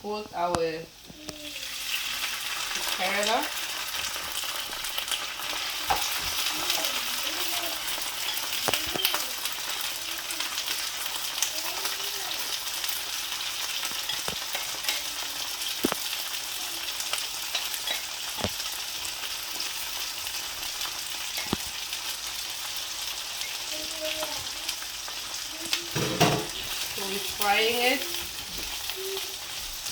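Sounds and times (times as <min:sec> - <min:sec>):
frying in hot oil sizzle: 0:00.1 - 0:29.9.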